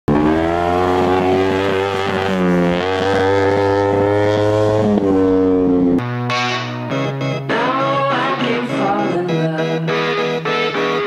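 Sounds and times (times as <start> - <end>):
motorcycle engine revving: 0.1 - 9.2.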